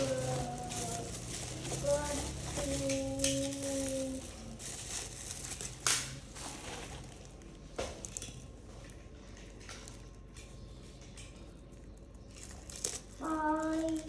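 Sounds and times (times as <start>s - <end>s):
packaging crinkling: 0.0s - 10.4s, 11.7s - 14.0s.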